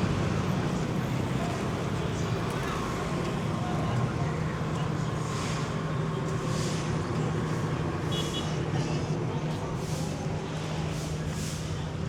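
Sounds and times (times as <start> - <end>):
engine hum of traffic: 0.0 - 12.0.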